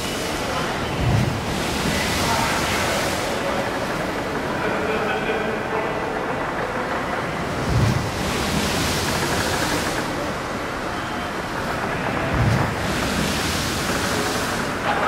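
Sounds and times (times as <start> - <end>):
crowd din echoing indoors: 0.0 - 15.0.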